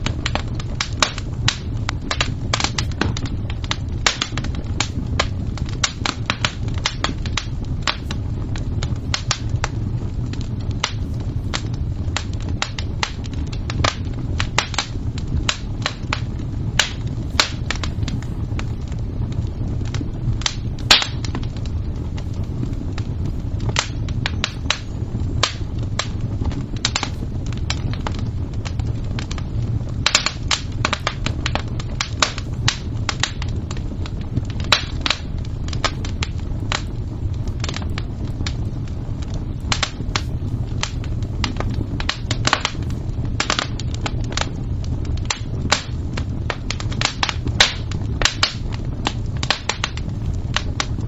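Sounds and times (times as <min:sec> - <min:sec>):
fire crackling: 0:00.0 - 0:51.0.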